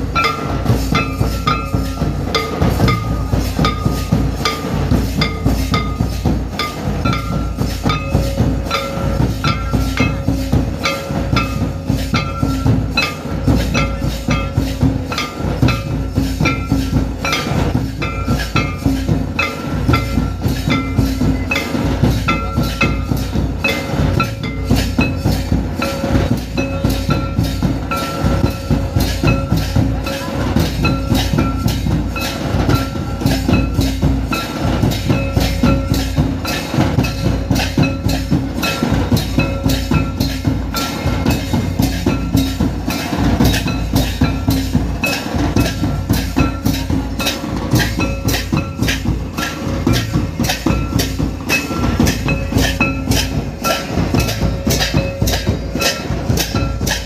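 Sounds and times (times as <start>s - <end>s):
drum ensemble dance rhythm: 0.0s - 57.0s
held tones above drumming: 0.0s - 57.0s.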